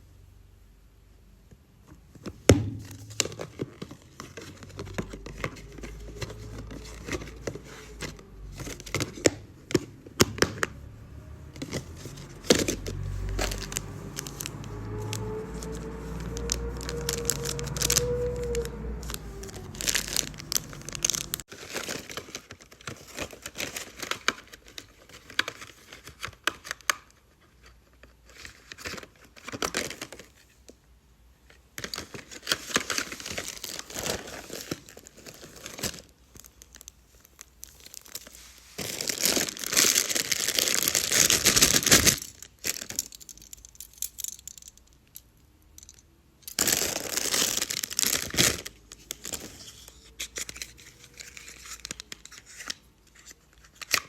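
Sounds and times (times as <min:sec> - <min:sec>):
packaging crinkling and tearing: 0:02.8 - 0:11.0, 0:11.6 - 0:30.4, 0:31.8 - 0:44.8, 0:46.5 - 0:54.0.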